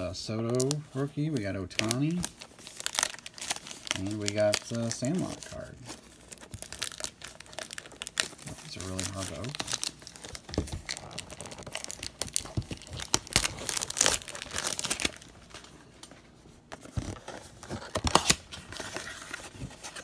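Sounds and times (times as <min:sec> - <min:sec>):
cardboard and wrapper tearing: 0:00.0 - 0:15.6, 0:17.1 - 0:20.0.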